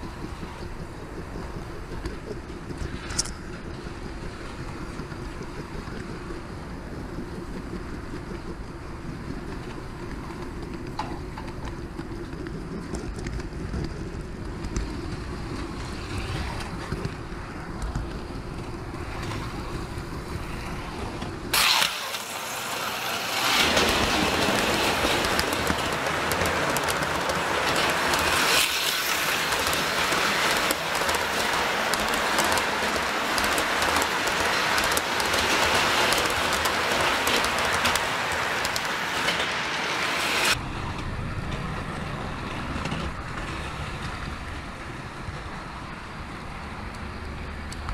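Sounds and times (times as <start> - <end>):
hissy whirring with crackling: 0.0 - 47.9
model train rumbling: 0.0 - 47.9.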